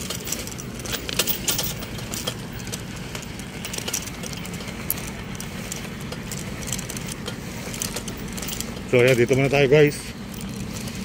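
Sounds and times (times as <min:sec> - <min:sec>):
low traffic hum: 0:00.0 - 0:11.0.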